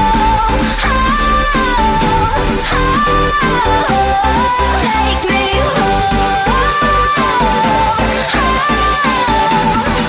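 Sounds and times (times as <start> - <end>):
electronic dance-pop music: 0.0 - 10.0.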